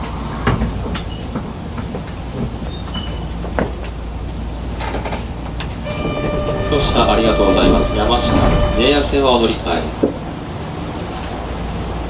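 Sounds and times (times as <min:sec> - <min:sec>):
train running low rumble: 0:00.0 - 0:12.0.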